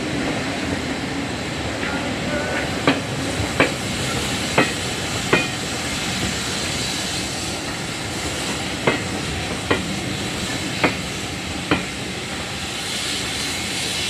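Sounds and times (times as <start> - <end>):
train rumble and hiss: 0.0 - 14.0
train wheels clicking over rail joints: 1.7 - 14.0.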